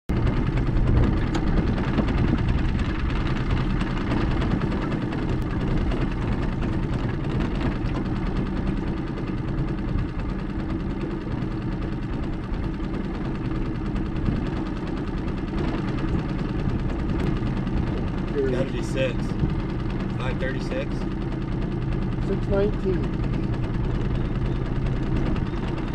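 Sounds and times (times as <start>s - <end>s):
outboard motor running: 0.1s - 25.9s.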